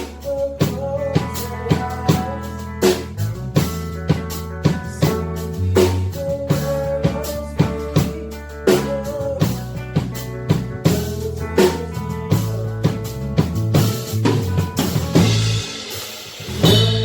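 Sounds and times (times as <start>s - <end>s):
bass guitar: 0.0s - 17.0s
drum kit beat: 0.0s - 17.0s.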